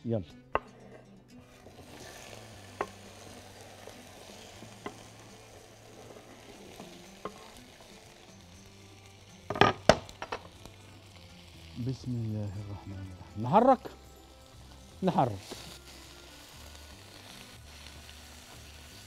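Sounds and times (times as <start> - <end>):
vegetables sizzling in oil: 1.5 - 19.0.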